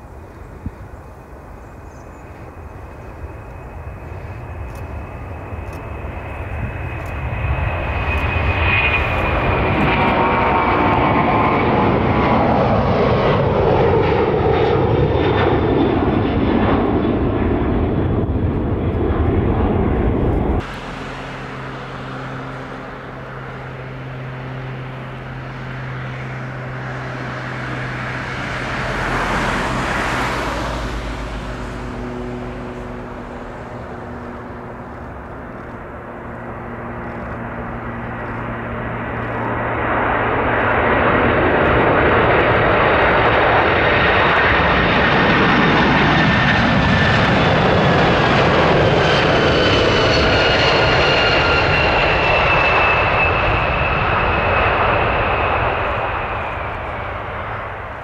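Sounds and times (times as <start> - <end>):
engine hum with steady tones: 0.0 - 15.9, 16.6 - 58.0
jet engine noise: 0.0 - 58.0.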